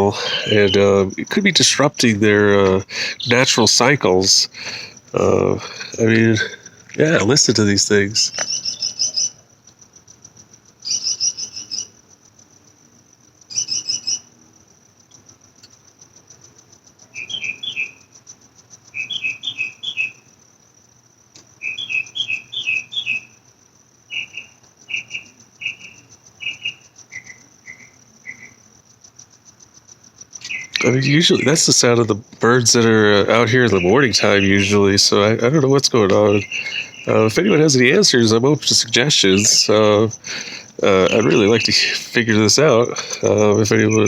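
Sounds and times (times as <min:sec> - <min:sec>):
insect trill: 0:00.0 - 0:44.0
songbird chirping: 0:00.0 - 0:44.0.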